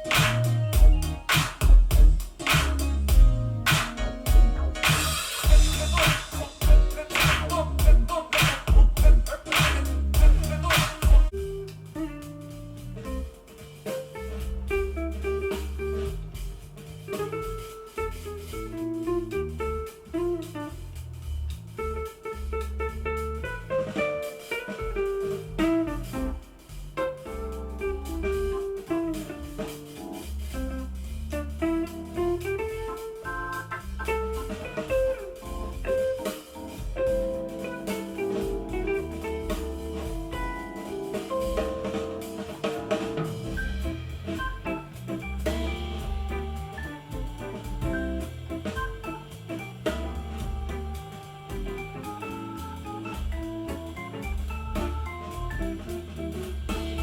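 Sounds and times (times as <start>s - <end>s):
band music through speakers: 0.0s - 57.0s.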